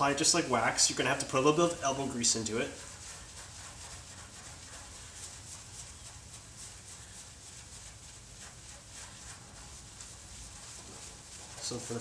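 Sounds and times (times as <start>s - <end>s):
cloth swishing on painted panel: 0.0s - 12.0s.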